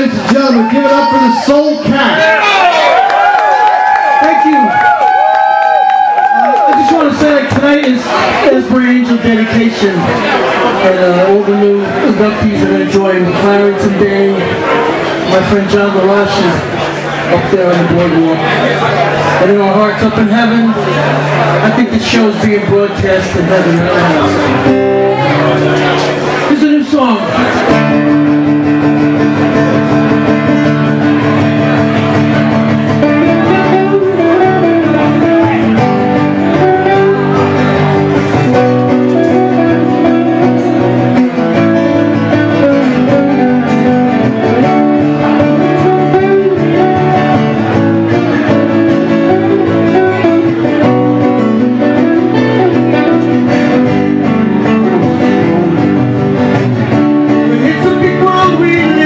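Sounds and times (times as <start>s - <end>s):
acoustic guitar strumming: 6.9s - 59.0s.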